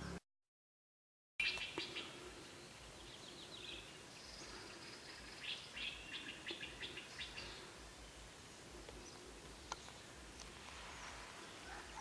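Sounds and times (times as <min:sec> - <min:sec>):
faint birds chirping: 0:01.4 - 0:12.0.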